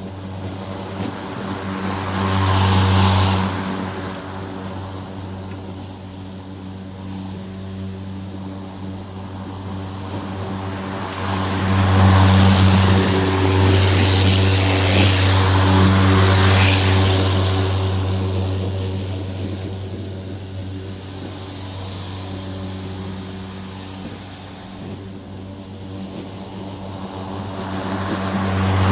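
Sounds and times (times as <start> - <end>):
lawn mower engine running: 0.0 - 28.9.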